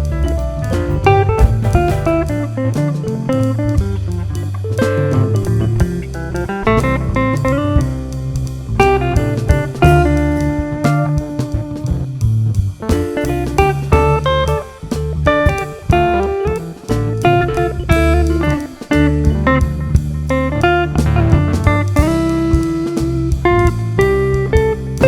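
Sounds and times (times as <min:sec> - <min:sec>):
laid-back guitar band music: 0:00.0 - 0:25.0.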